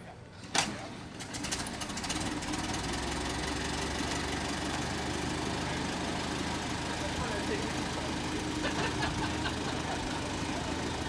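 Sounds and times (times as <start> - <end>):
old car engine idling: 1.2 - 11.0.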